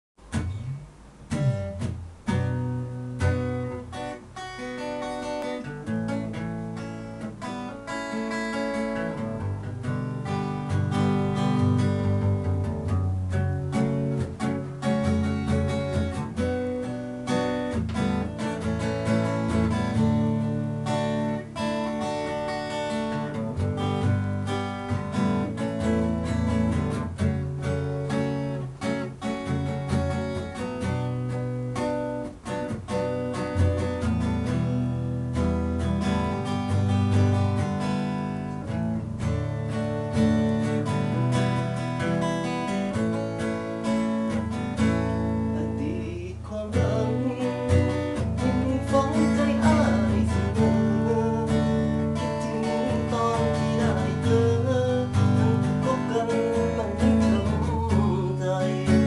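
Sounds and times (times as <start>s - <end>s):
acoustic guitar playing: 0.2s - 59.0s.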